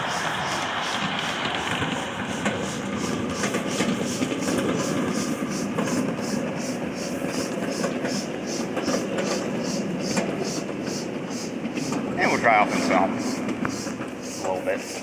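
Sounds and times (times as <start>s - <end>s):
rhythmic steam hissing: 0.0s - 15.0s
steam train rolling on track: 0.0s - 15.0s
wheels clicking on rails: 0.0s - 15.0s.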